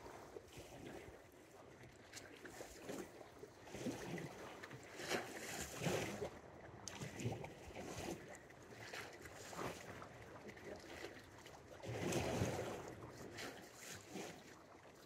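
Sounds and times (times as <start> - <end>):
water lapping against shore: 0.0 - 15.0.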